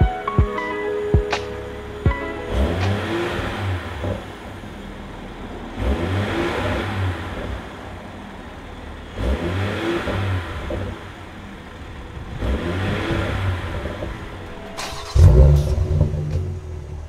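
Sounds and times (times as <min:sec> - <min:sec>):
car engine idling and revving: 0:01.4 - 0:17.0.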